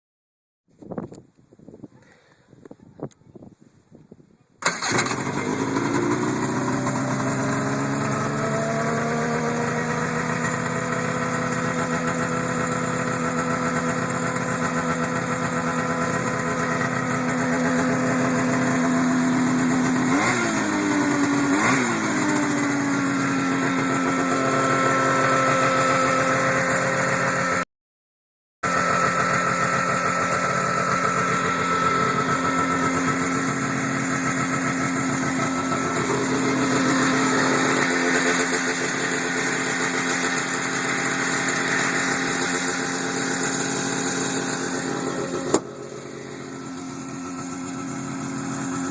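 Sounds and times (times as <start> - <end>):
snowmobile engine idling: 4.6 - 27.6, 28.6 - 48.9.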